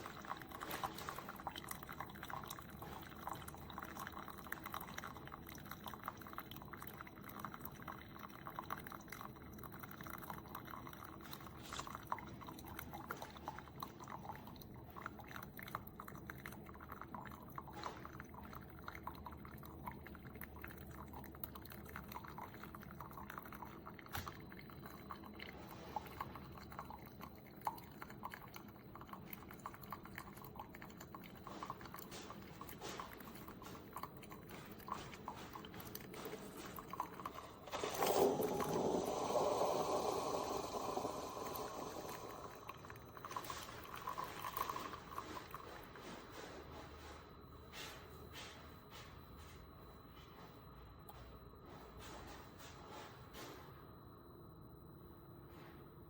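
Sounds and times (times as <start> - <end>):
coffee maker gurgling: 0.0 - 48.5
liquid trickling and dripping: 0.0 - 49.8.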